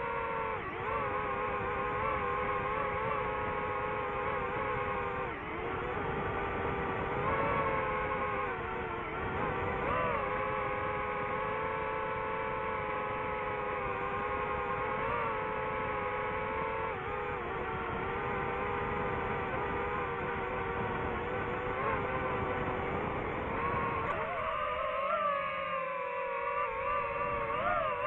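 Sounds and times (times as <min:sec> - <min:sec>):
drone propellers whining: 0:00.0 - 0:28.0.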